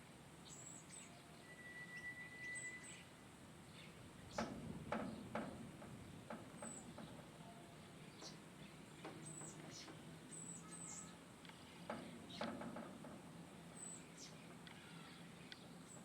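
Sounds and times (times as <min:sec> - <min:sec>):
small birds chirping: 0:00.4 - 0:12.8, 0:13.4 - 0:16.0.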